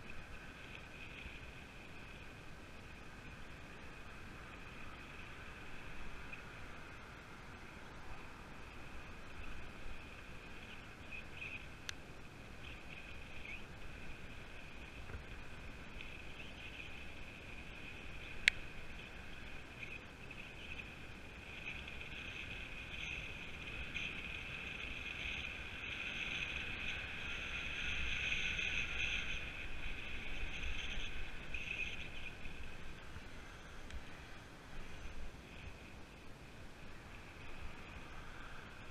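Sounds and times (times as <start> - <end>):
bicycle wheels whirring: 0.0 - 38.9.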